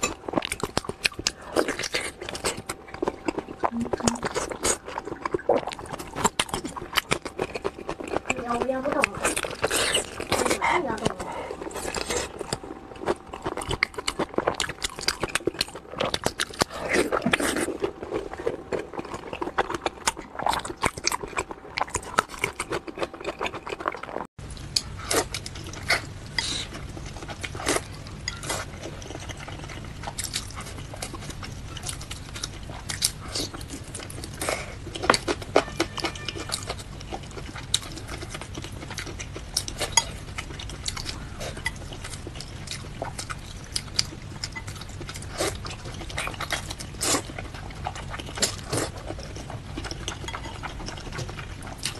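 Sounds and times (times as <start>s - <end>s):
close chewing sounds: 0.0s - 51.9s
steady low hum: 0.0s - 51.9s.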